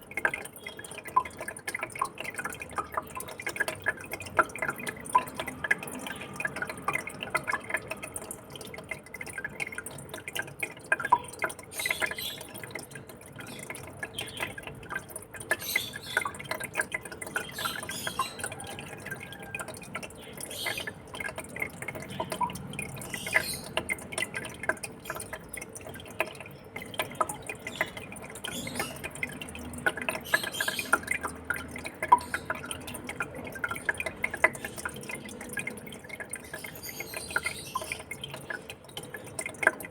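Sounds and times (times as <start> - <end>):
aquarium water trickling and dripping: 0.0 - 39.9.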